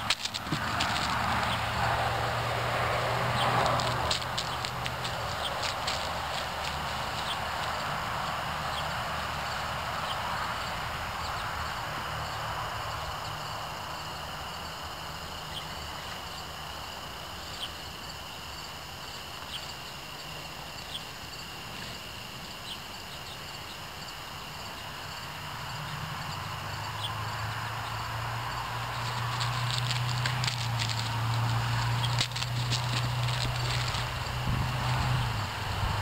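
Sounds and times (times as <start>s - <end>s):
insects calling: 0.0s - 36.0s.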